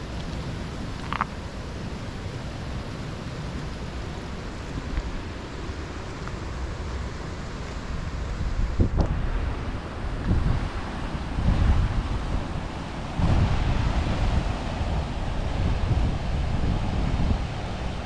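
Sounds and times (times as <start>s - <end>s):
river rushing: 0.0s - 18.0s
wind buffeting microphone: 0.0s - 18.0s.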